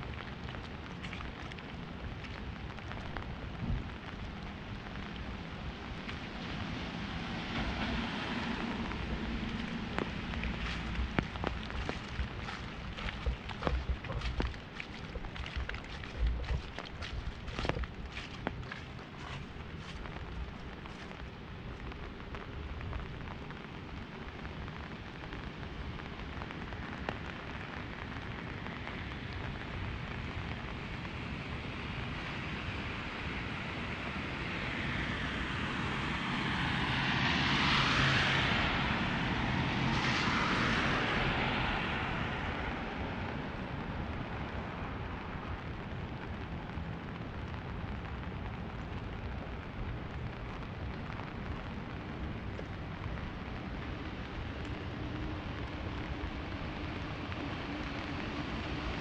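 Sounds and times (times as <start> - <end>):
rain pattering on umbrella: 0.0 - 59.0
vehicle tyres hissing on wet street: 0.0 - 59.0.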